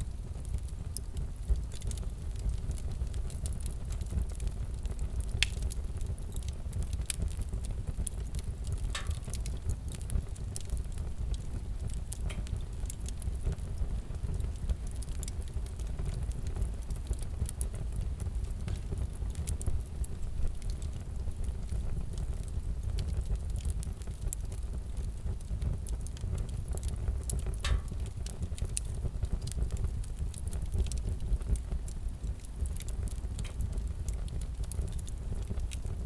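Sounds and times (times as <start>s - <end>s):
fire crackling and popping: 0.0s - 36.0s
low rumble of burning: 0.0s - 36.0s.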